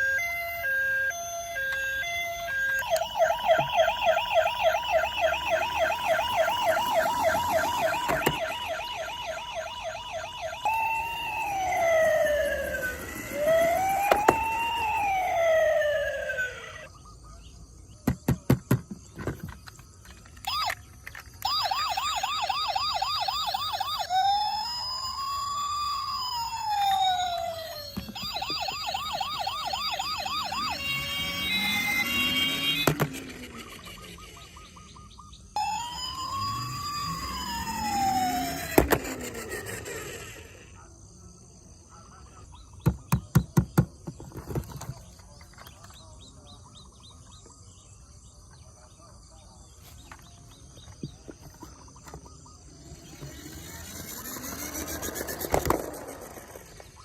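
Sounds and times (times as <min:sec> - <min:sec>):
toy electronic sirens: 0:00.0 - 0:17.0, 0:19.1 - 0:40.9, 0:48.9 - 0:57.0.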